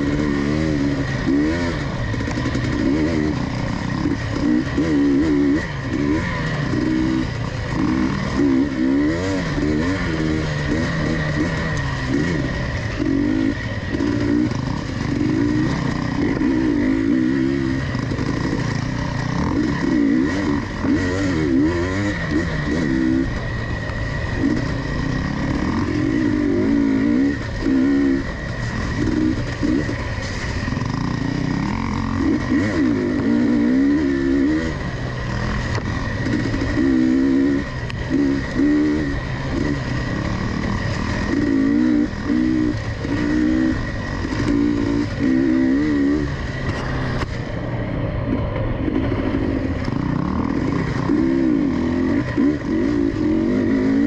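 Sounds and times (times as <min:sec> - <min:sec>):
steady high whine: 0:00.0 - 0:54.0
two-stroke engine revving: 0:00.0 - 0:54.0.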